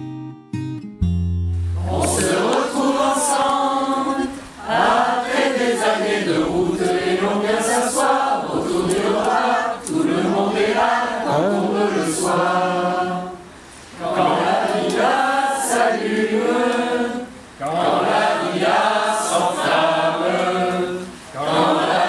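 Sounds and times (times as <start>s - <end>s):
mixed choir singing: 1.8s - 22.0s.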